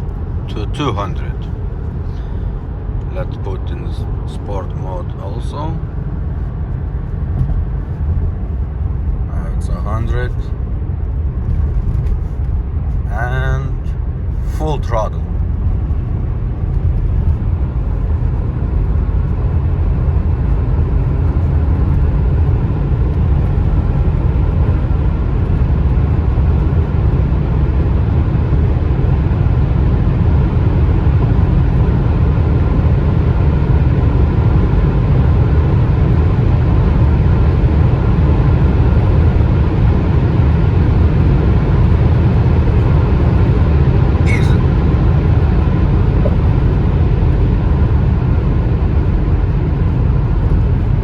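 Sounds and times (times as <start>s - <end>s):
diesel engine rumble at full throttle: 0.0s - 51.0s
road and wind noise: 0.0s - 51.0s.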